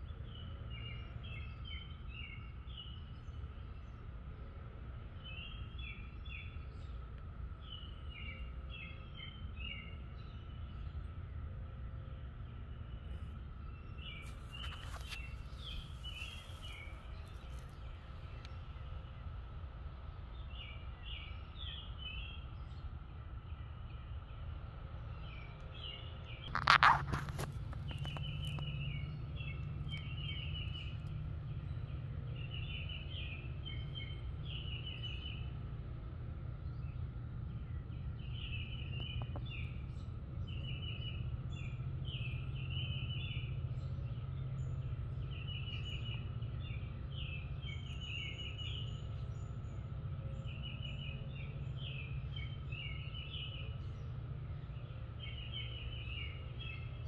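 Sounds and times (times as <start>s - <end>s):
bird chirping: 0.0s - 4.4s, 5.2s - 11.2s, 12.8s - 35.6s, 36.6s - 57.0s
low background rumble: 0.0s - 57.0s.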